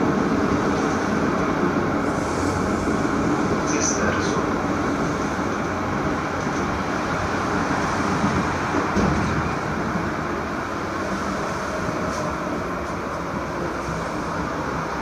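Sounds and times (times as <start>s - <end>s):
tram bump: 0.0s - 15.0s
tram wheels rumbling on rails: 0.0s - 15.0s.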